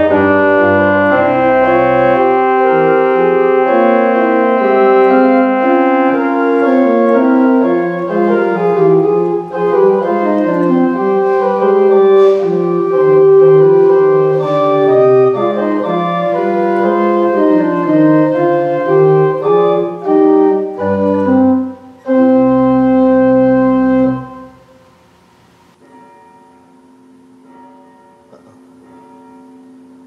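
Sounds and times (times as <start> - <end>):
church organ chords: 0.0 - 25.2.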